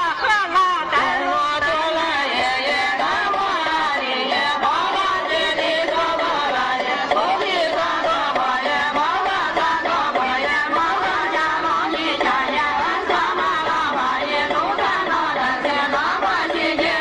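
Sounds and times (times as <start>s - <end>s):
music with person singing: 0.9s - 17.0s.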